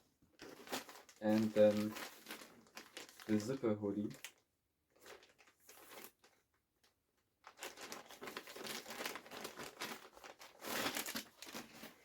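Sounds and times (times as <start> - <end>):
packaging crinkling and rustling: 0.3 - 12.0.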